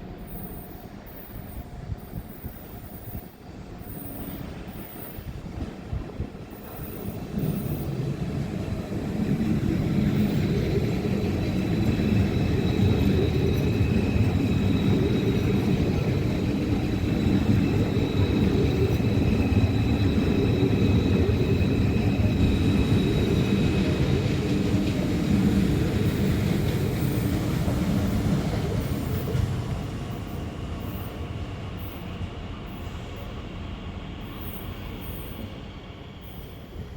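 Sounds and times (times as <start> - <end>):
train rumbling past: 0.0 - 36.9.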